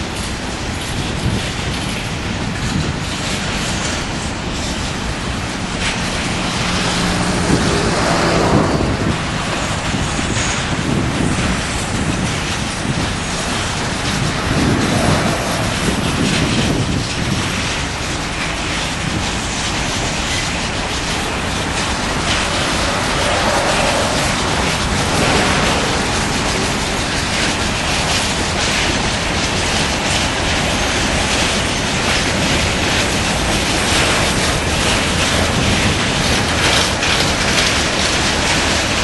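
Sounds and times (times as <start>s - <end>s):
train wheels on rails: 0.0s - 39.0s.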